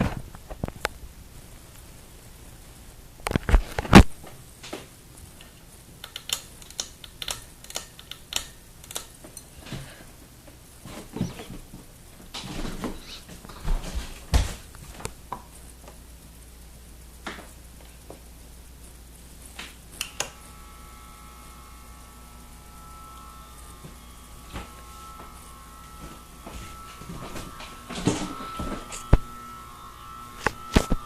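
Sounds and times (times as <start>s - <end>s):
ceiling fan humming: 0.0s - 31.0s.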